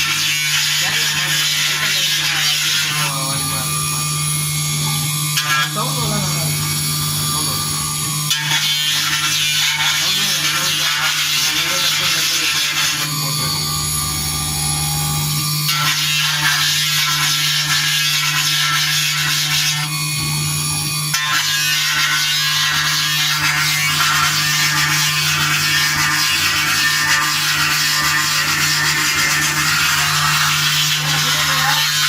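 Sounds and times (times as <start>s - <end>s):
high-pitched engraving noise: 0.0s - 32.0s.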